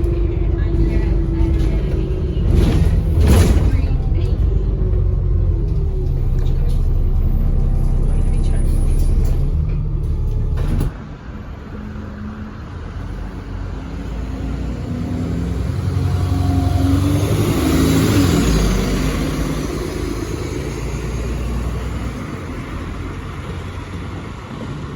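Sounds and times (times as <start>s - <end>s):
bus diesel engine accelerating: 0.0s - 24.9s.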